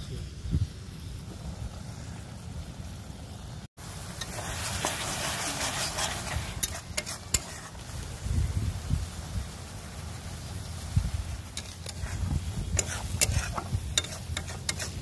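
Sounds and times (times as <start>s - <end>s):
curry sizzling in iron pan: 2.8s - 15.0s.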